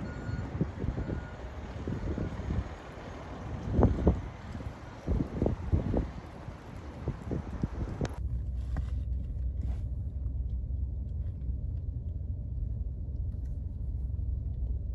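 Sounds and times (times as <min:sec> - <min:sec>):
vehicle engine rumbling: 0:00.0 - 0:14.9.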